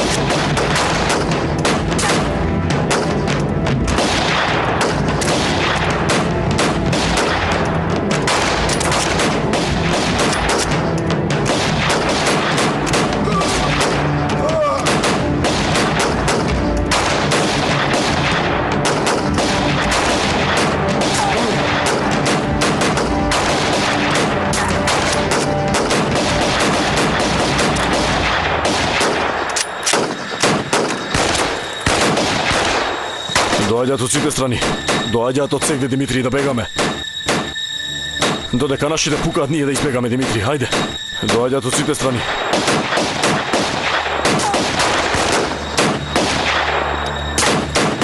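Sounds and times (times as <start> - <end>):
many rifles firing: 0.0 - 48.0.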